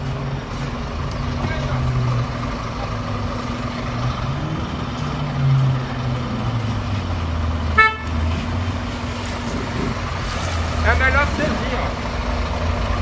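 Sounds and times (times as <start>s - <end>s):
diesel truck engine at low revs: 0.0s - 13.0s.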